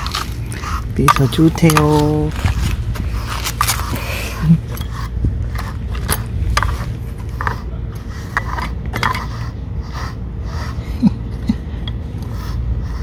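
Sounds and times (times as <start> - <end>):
brush scraping through fur: 0.0 - 11.2, 12.1 - 13.0
low background rumble: 0.0 - 13.0.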